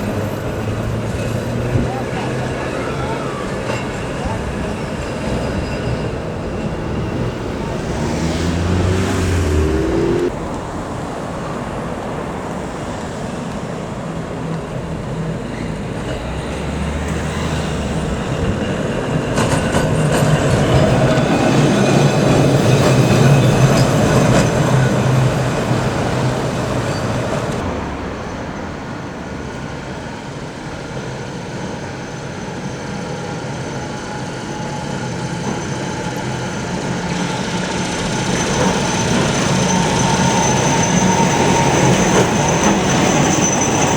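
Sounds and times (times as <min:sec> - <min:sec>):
tram motor hum: 0:00.0 - 0:30.1, 0:32.6 - 0:43.9
tram wheel noise on rails: 0:00.0 - 0:43.9.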